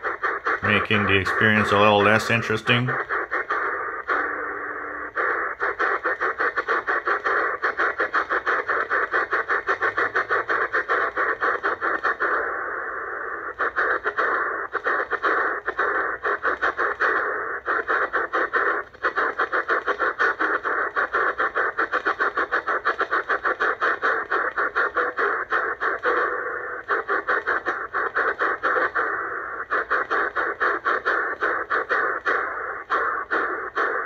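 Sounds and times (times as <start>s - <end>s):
shortwave radio hiss: 0.0s - 34.0s.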